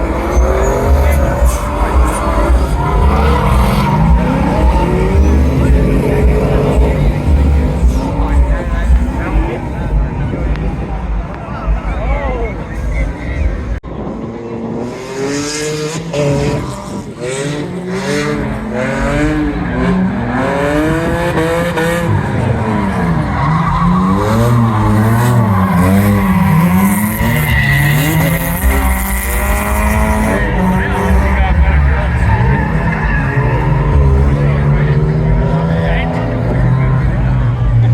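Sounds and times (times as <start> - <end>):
car engine revving: 0.0 - 37.9
tires squealing: 0.0 - 37.9.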